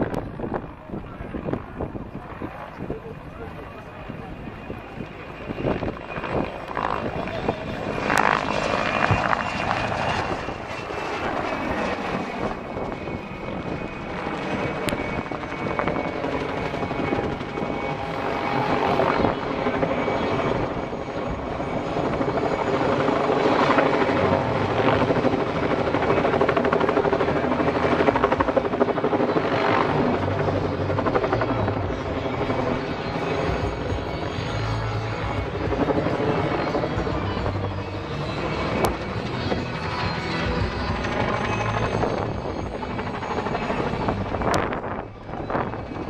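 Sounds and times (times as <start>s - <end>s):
helicopter engine whine: 0.0s - 46.0s
helicopter rotor beat: 0.0s - 46.0s.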